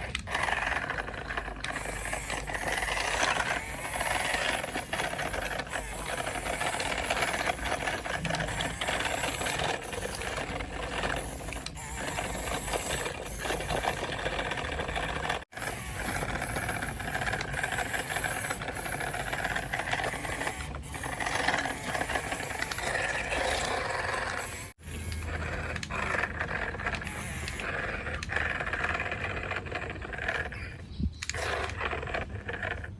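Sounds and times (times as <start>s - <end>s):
plastic parts rattling: 0.0s - 28.8s
small electric motors whirring: 0.0s - 32.9s.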